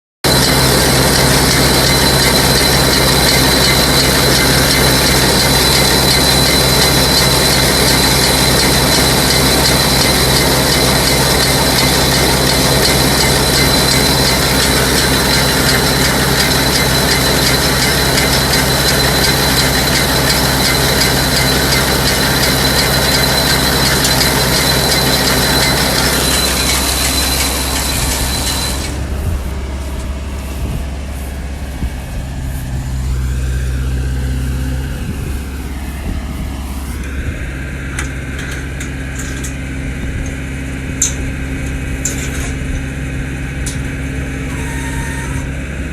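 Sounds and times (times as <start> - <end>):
tractor engine running: 0.2 - 45.9.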